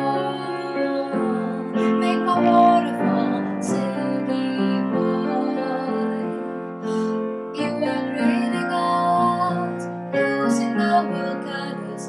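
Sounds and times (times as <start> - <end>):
piano chords: 0.0 - 12.0
woman singing: 0.0 - 12.0.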